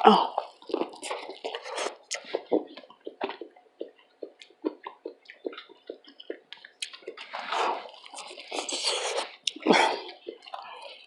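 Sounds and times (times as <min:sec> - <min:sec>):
wet chewing with mouth smacks: 0:00.3 - 0:11.0.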